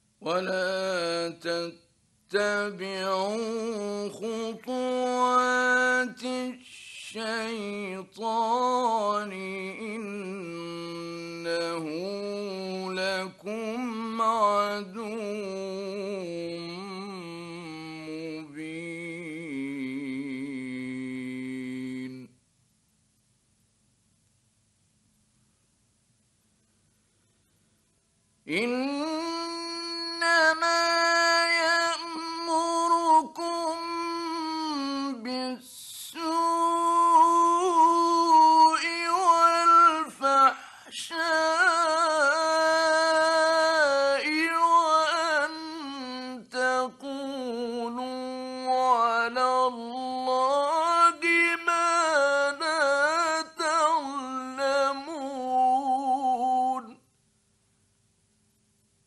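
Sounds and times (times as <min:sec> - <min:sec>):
man reciting melodically: 0:00.2 - 0:22.4, 0:28.4 - 0:57.1.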